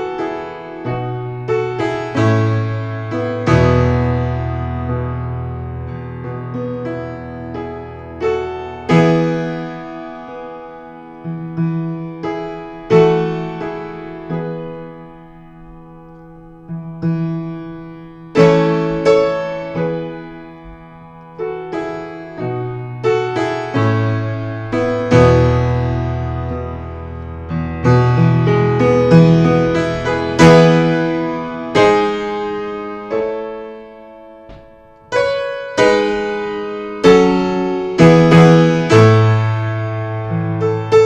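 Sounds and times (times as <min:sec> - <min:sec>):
solo piano chords: 0:00.0 - 0:41.0.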